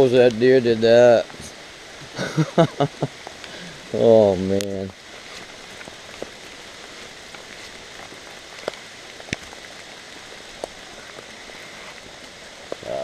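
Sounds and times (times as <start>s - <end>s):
steady rain pattering: 0.0s - 13.0s.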